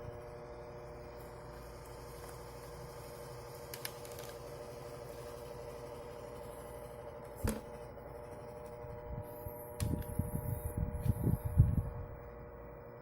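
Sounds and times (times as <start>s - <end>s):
steady hum of even tones: 0.0s - 13.0s.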